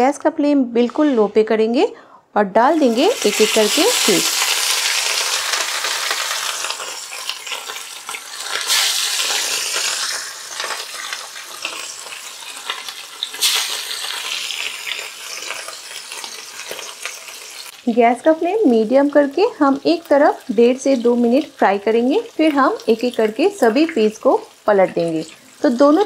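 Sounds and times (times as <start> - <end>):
fish sizzling in hot oil: 2.7 - 26.0.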